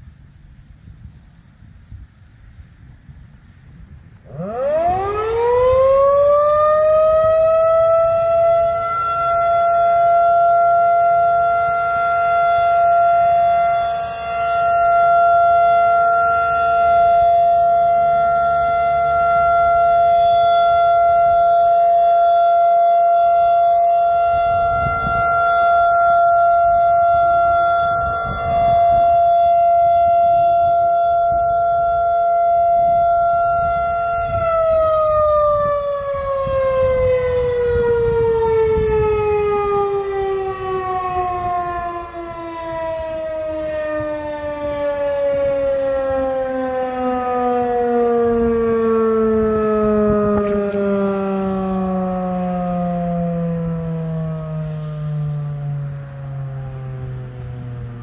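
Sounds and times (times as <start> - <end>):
rotating warning siren: 0.0 - 2.0, 2.9 - 58.0.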